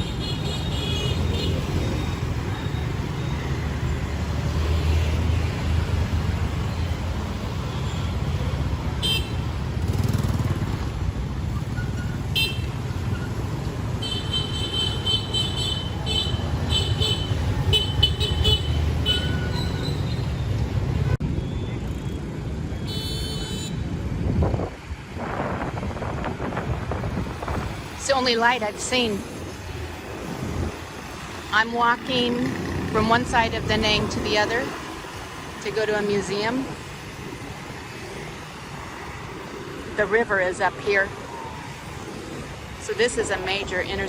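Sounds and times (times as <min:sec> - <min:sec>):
traffic engine rumble: 0:00.0 - 0:44.0.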